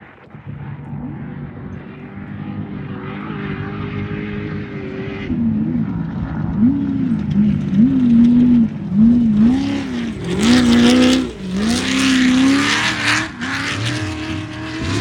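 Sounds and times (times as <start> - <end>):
truck engine revving: 0.3 - 15.0.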